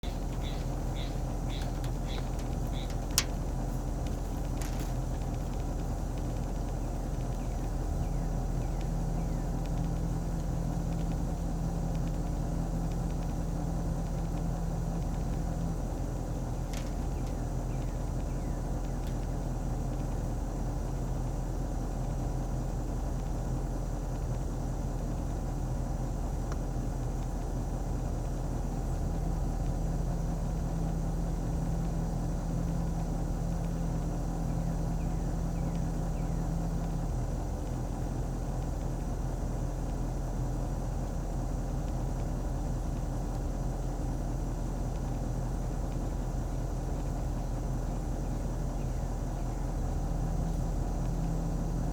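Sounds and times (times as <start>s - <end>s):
extra engine tone: 0.0s - 51.9s
vehicle engine rumble: 0.0s - 51.9s.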